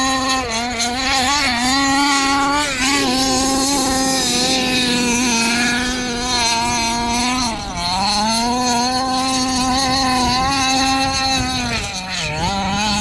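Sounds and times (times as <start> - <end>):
two-stroke engine howling: 0.0 - 13.0.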